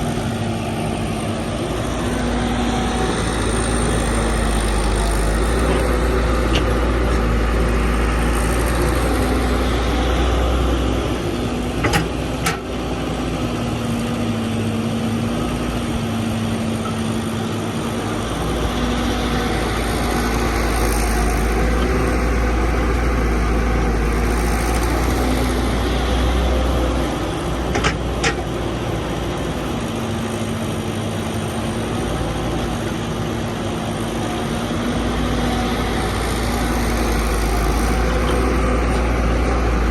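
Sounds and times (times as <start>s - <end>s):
excavator diesel engine rumbling: 0.0s - 39.9s.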